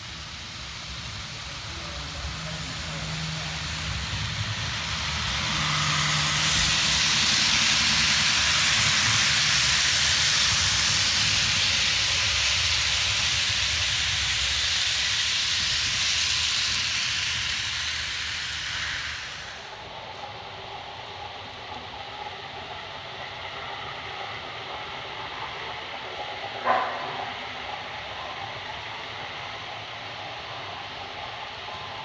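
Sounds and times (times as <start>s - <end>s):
model train wheels hissing: 0.0s - 32.0s.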